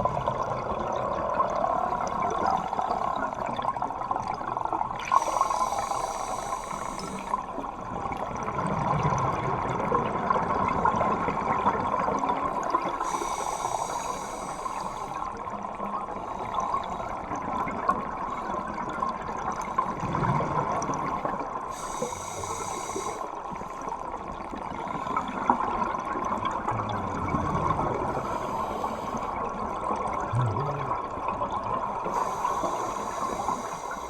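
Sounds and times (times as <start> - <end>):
underwater bubbling: 0.0 - 34.0.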